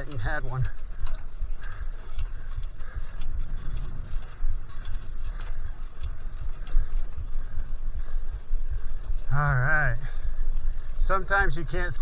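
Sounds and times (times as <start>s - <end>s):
bicycle ticking and rattling: 0.0s - 12.0s
wind buffeting microphone: 0.0s - 12.0s.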